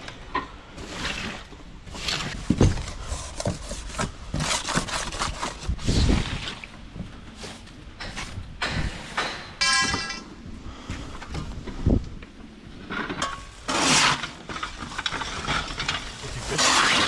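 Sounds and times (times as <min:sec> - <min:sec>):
debris being swept and scraped: 0:00.7 - 0:10.3, 0:12.8 - 0:17.0.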